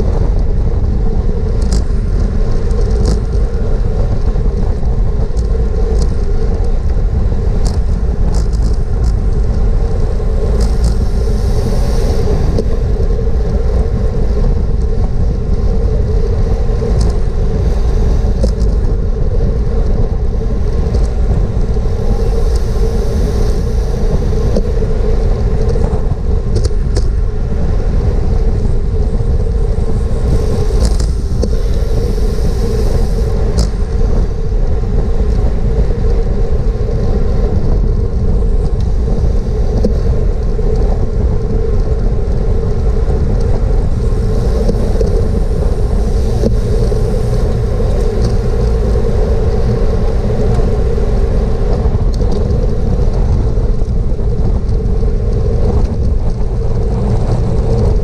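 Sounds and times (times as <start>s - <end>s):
road rumble: 0.0s - 58.0s
wind rush: 0.0s - 58.0s.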